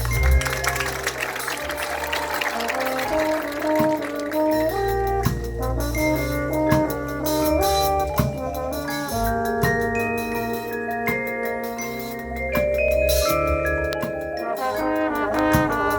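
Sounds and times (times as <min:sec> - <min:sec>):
brass chords: 0:00.0 - 0:15.9
mallet percussion: 0:00.0 - 0:15.9.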